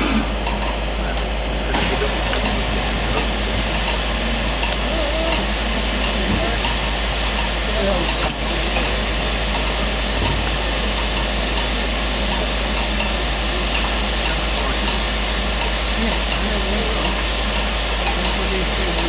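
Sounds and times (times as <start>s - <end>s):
steam locomotive hissing: 0.0s - 19.0s
vacuum ejector working: 1.6s - 19.0s.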